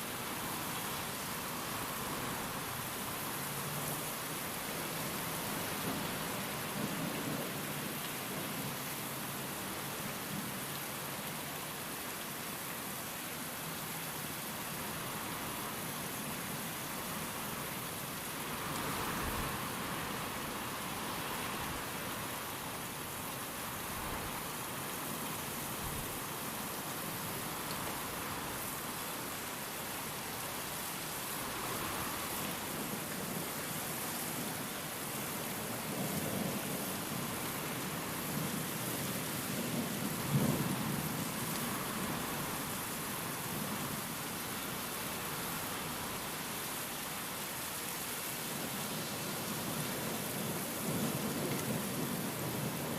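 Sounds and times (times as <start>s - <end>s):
heavy rain: 0.0s - 52.9s
wind: 0.0s - 52.9s.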